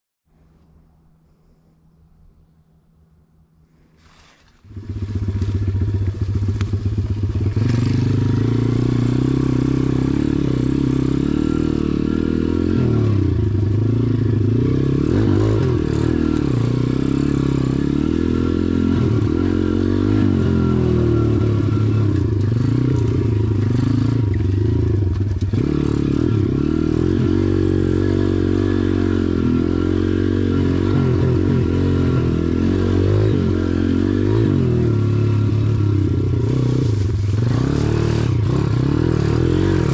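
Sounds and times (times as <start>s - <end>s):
pit bike engine revving: 4.2s - 39.9s.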